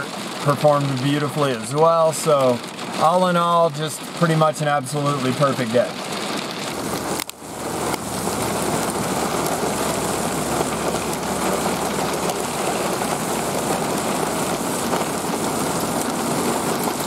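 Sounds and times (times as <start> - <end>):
hail and rain pelting: 0.0 - 17.0.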